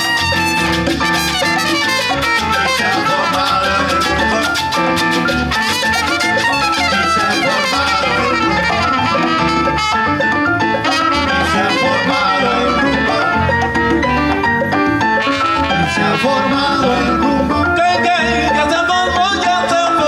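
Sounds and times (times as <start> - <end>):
instrumental salsa band music: 0.0 - 20.0.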